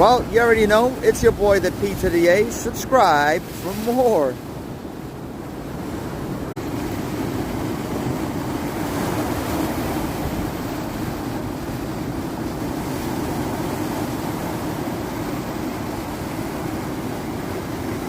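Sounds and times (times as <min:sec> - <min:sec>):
ocean waves: 0:00.0 - 0:18.0
wind buffeting the microphone: 0:00.0 - 0:18.0.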